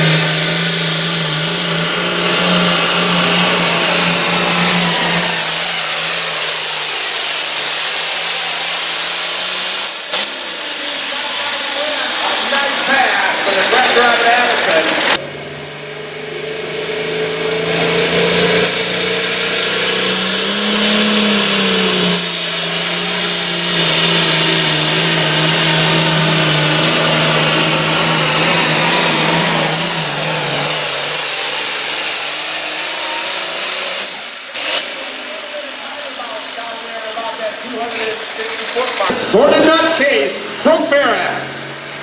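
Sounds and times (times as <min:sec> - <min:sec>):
diesel engine under load: 0:00.0 - 0:42.0
high whine: 0:00.0 - 0:42.0.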